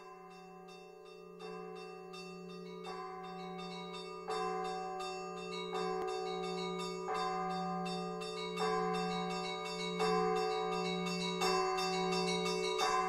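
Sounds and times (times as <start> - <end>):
small church bells ringing: 0.0 - 13.0.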